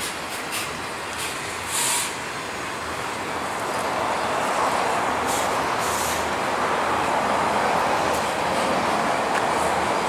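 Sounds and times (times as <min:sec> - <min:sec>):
train wheels rolling on rail: 0:00.0 - 0:10.0.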